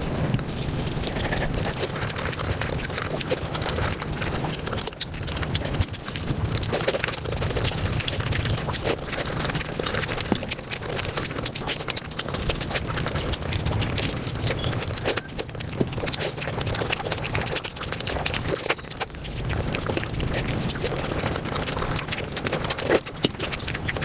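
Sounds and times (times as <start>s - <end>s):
sped-up chewing and mouth smacks: 0.0s - 24.0s.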